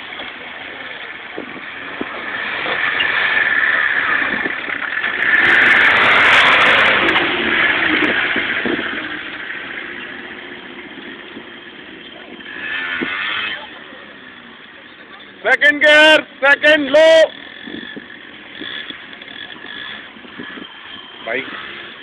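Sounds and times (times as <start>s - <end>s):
jeep engine passing by: 0.0s - 22.0s.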